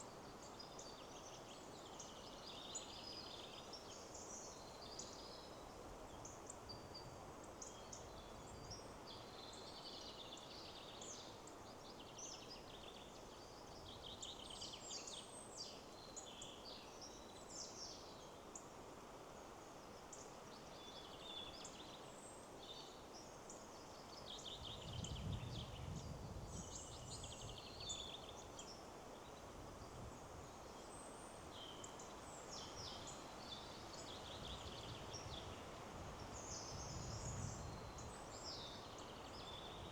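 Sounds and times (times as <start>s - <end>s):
songbirds chirping: 0.0s - 39.9s
wind through trees: 0.0s - 39.9s.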